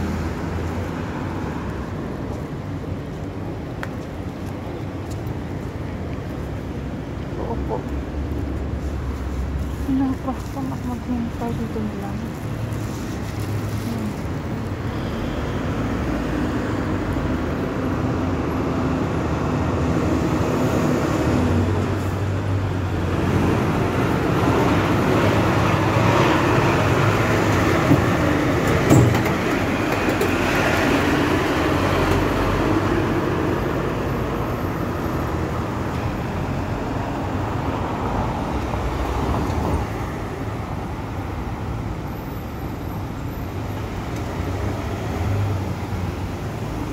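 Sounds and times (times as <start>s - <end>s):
street traffic: 0.0s - 46.9s.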